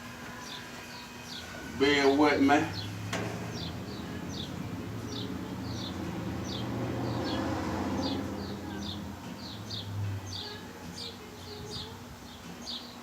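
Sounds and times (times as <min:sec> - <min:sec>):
bird chirping: 0:00.3 - 0:13.0.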